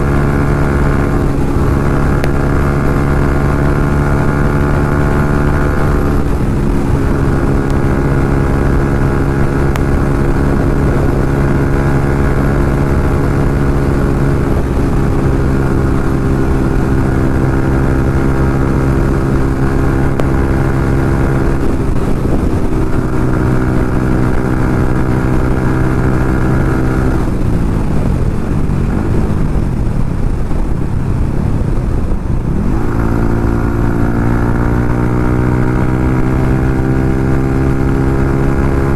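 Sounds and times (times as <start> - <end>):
low wind rumble: 0.0 - 38.9
motorcycle engine at high revs: 0.0 - 38.9.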